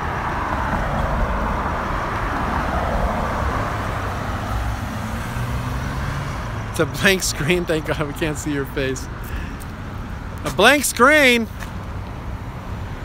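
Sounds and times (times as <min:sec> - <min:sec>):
road traffic rushing by: 0:00.0 - 0:13.0.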